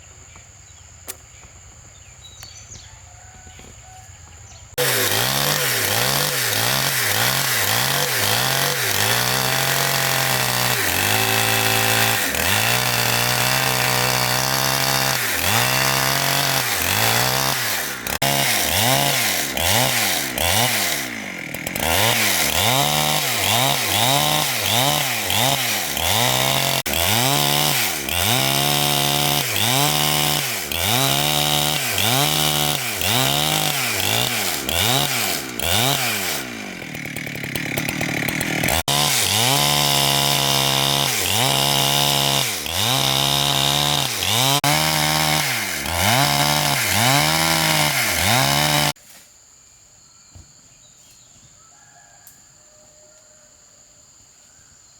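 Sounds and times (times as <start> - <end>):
chainsaw cutting wood: 4.7 - 49.1.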